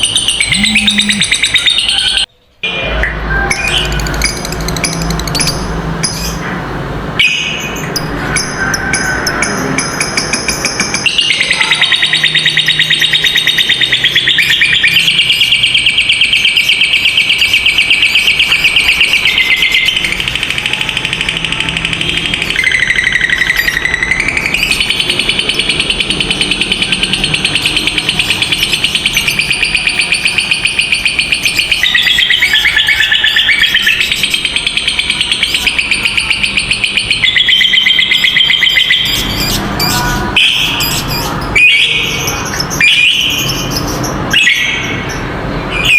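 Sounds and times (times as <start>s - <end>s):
lovebirds chattering trill: 0.0s - 2.2s, 11.0s - 45.9s.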